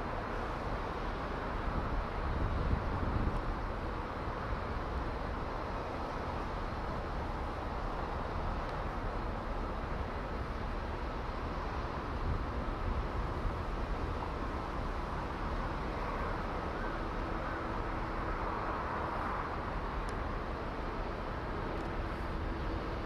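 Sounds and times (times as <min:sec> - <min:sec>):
low rumble and hiss: 0:00.0 - 0:23.0.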